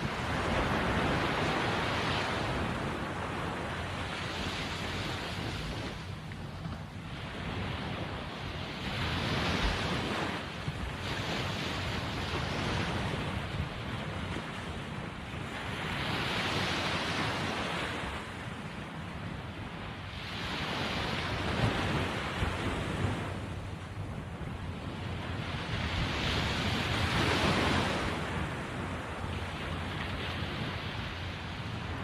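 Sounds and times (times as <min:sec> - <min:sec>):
sea waves washing in: 0:00.0 - 0:32.0
wind buffeting microphone: 0:00.0 - 0:32.0.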